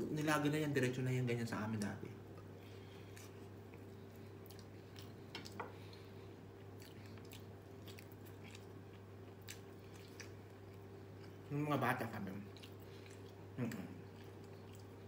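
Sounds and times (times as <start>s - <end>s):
faint chewing: 1.7s - 11.5s, 12.3s - 15.0s.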